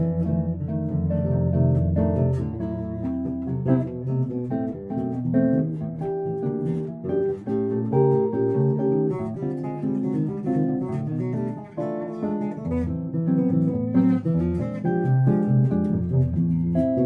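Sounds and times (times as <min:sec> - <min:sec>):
electric bass line: 0:00.0 - 0:17.0.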